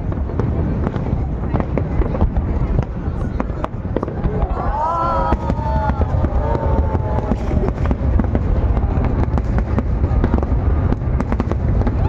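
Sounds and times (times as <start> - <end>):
fireworks bangs and crackling: 0.0 - 12.0
low booming rumble: 0.0 - 12.0.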